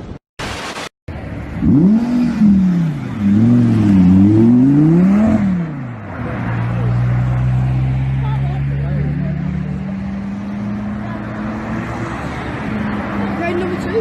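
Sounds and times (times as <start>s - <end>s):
car engine revving: 1.3s - 14.0s.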